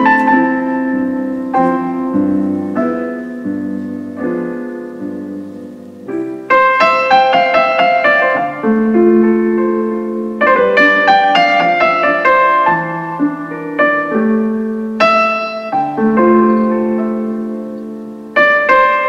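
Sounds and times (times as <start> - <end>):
piano music through speakers: 0.0 - 19.0.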